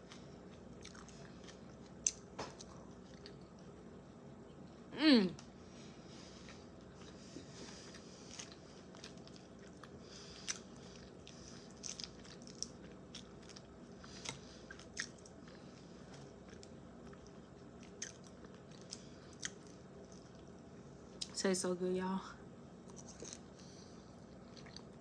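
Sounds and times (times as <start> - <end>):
chewing and crunching salad: 0.0 - 3.9, 6.2 - 21.4, 22.8 - 25.0.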